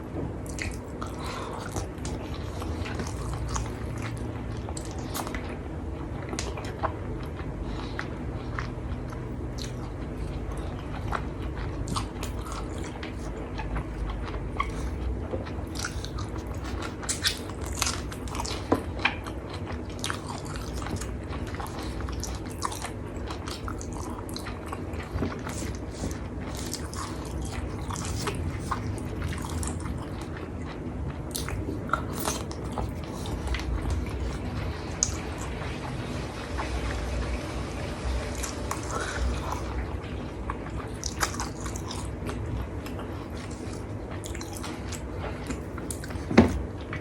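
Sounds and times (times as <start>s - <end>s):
person chewing: 0.0s - 47.0s.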